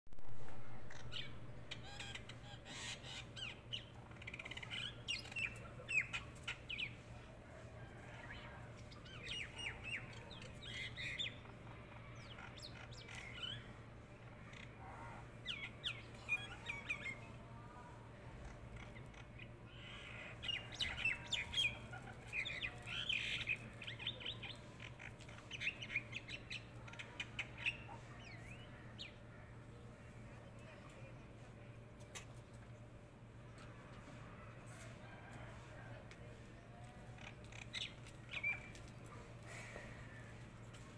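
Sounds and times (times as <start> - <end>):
birds chirping: 0.7 - 17.7, 18.3 - 33.7, 36.6 - 40.9.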